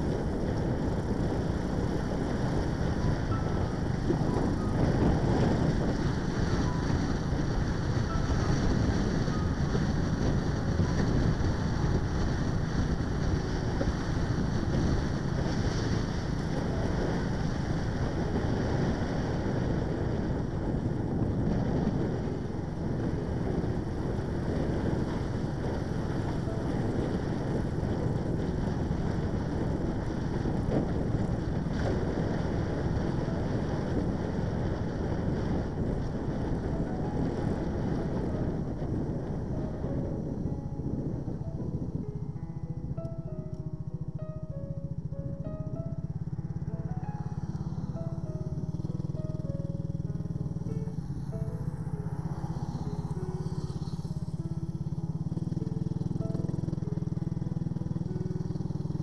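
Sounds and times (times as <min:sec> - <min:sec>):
road and vehicle noise: 0:00.0 - 0:59.0
wind rushing over microphone: 0:00.0 - 0:59.0.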